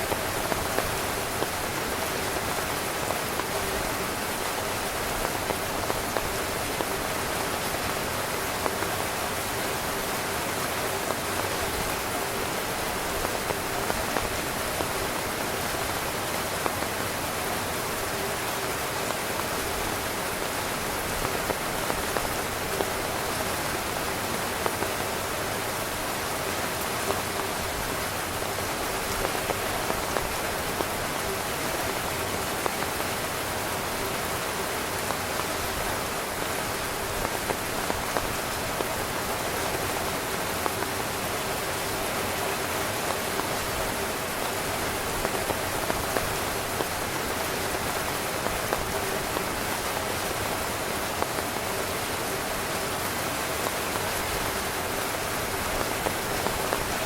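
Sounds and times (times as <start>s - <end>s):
rain on a tent: 0.0s - 57.0s
raindrops ticking: 0.0s - 57.0s.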